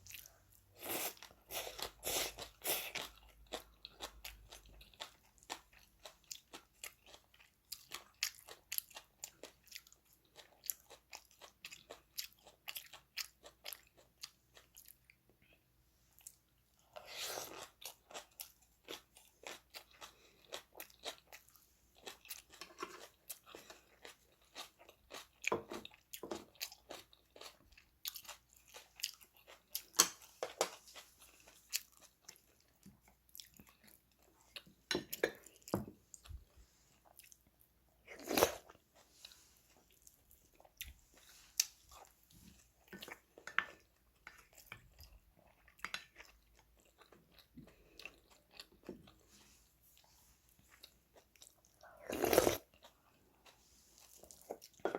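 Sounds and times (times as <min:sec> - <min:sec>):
person chewing: 0:00.0 - 0:54.9.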